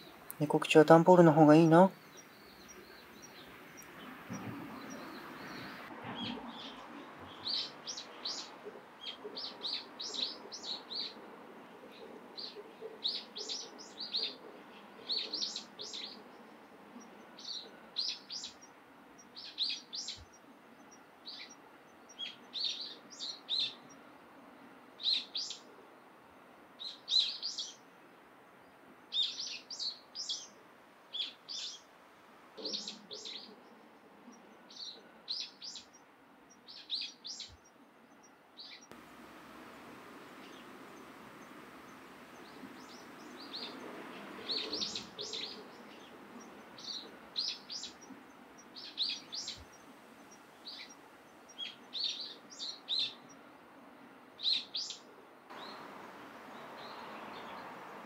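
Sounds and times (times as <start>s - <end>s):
small birds chirping: 0.0s - 11.2s, 11.9s - 24.0s, 25.0s - 25.7s, 26.8s - 27.8s, 29.1s - 31.9s, 32.6s - 39.0s, 39.8s - 53.4s, 54.4s - 58.0s.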